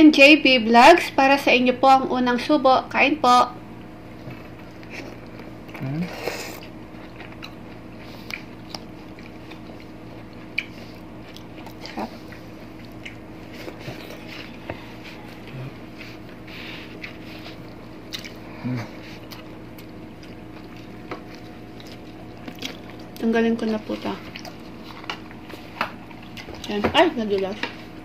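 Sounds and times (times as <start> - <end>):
people chewing food: 4.1 - 28.0.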